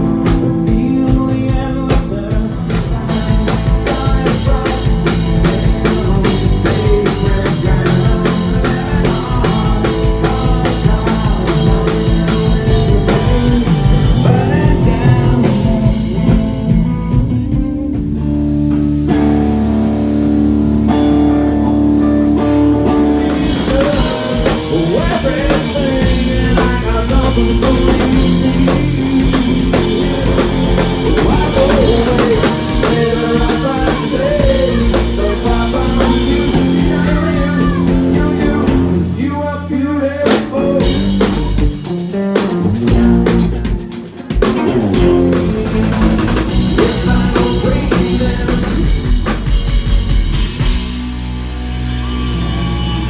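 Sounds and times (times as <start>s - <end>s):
acoustic and electric guitars: 0.0s - 53.0s
drum kit: 0.0s - 53.0s.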